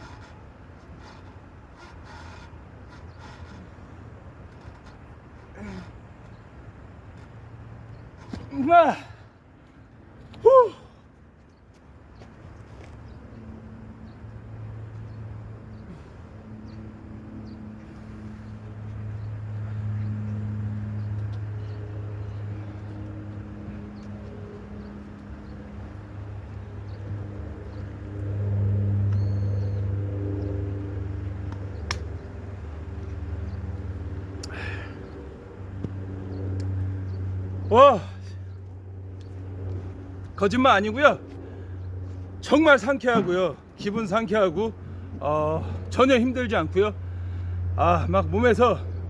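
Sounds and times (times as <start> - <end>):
faint birdsong: 0.0 - 49.0.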